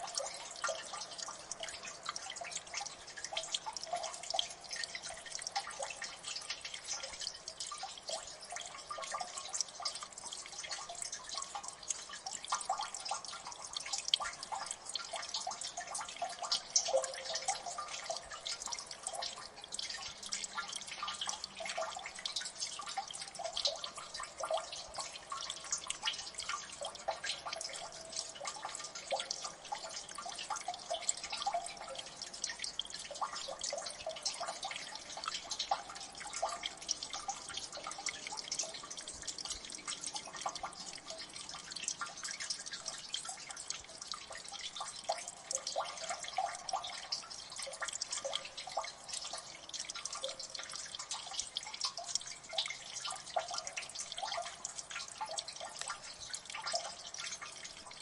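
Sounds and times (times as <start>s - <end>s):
water dripping: 0.0s - 58.0s.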